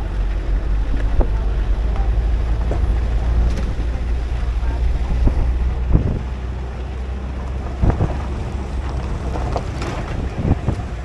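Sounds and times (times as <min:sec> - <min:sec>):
vehicle rumbling while moving: 0:00.0 - 0:11.0
wind buffeting microphone: 0:00.0 - 0:11.0.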